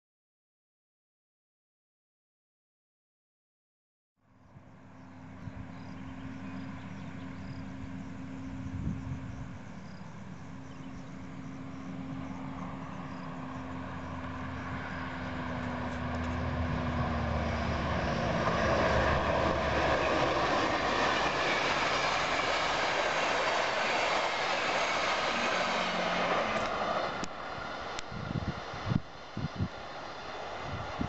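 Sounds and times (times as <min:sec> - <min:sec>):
diesel locomotive engine drone: 0:04.2 - 0:31.0
train rushing noise: 0:05.2 - 0:31.0.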